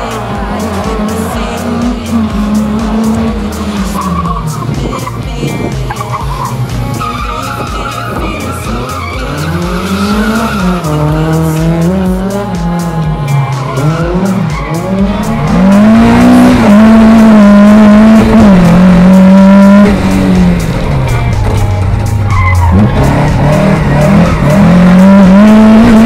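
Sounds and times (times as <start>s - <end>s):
car engine revving hard: 0.0s - 26.0s
tyres skidding on asphalt: 0.0s - 26.0s.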